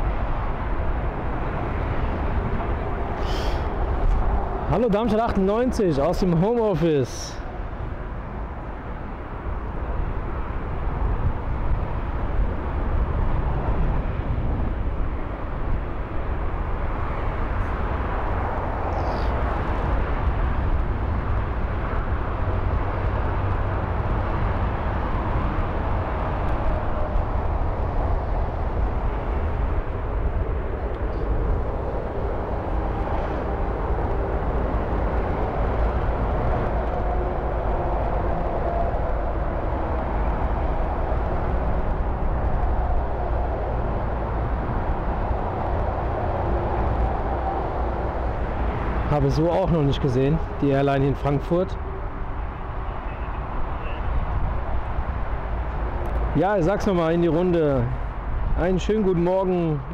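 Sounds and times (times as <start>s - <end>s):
jet engines rumbling with whine: 0.0s - 59.9s.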